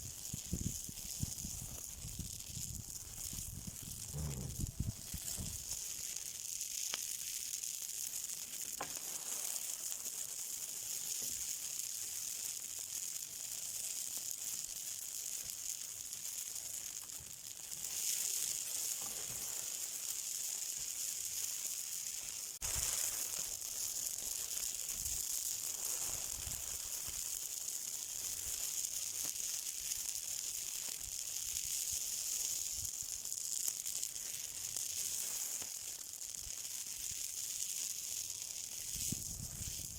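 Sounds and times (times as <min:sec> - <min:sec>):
fire hissing and crackling: 0:00.0 - 0:39.9.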